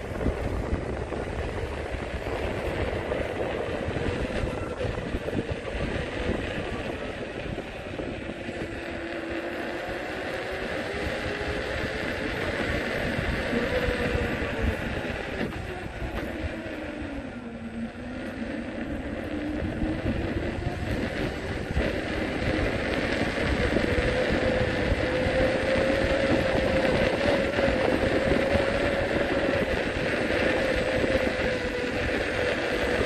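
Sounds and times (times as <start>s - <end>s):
small vehicle motor whining: 0.0s - 33.0s
wind and road noise: 0.0s - 33.0s.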